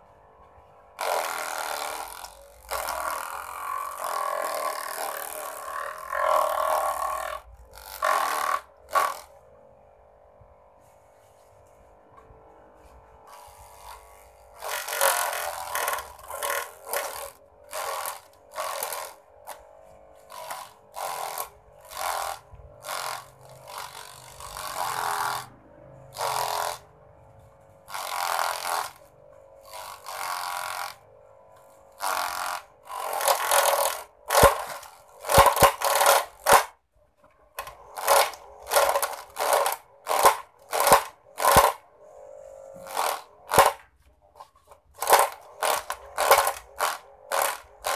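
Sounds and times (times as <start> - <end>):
electric motor humming: 0.0 - 47.9
grass chopper cutting grass: 0.9 - 9.9, 10.7 - 36.8, 37.6 - 47.9.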